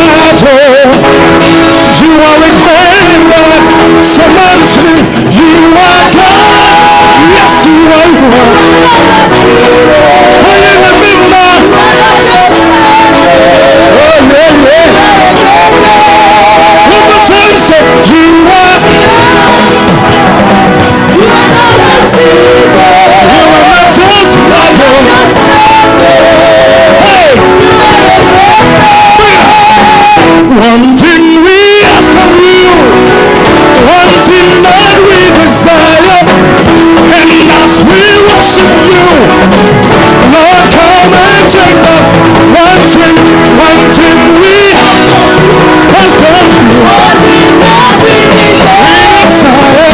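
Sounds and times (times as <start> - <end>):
band playing: 0.0 - 49.9
voices singing: 0.0 - 49.9.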